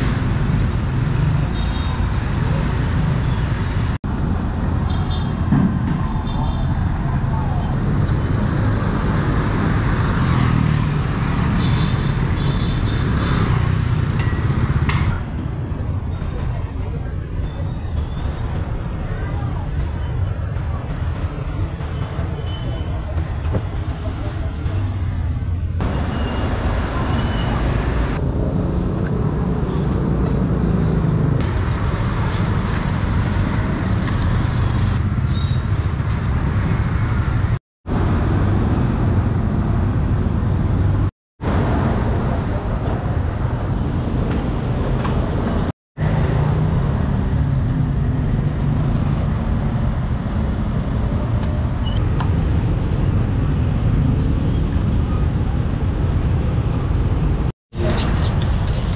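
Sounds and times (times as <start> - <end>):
low traffic rumble: 0.0 - 58.9.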